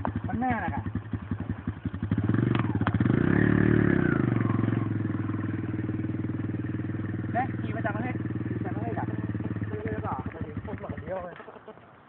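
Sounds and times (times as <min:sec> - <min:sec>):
dirt bike engine revving: 0:00.0 - 0:11.3.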